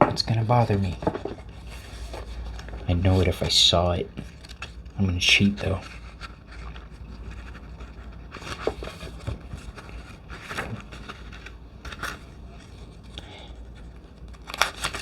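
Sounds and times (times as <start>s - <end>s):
cards scraping and swishing: 0.3s - 15.0s.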